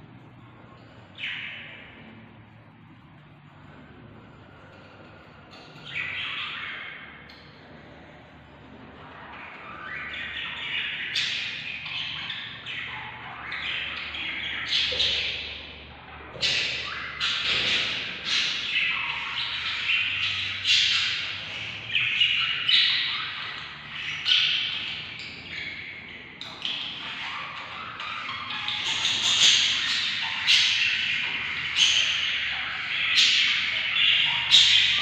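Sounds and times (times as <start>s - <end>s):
budgerigar chicks chirping and squawking: 0.1s - 35.0s.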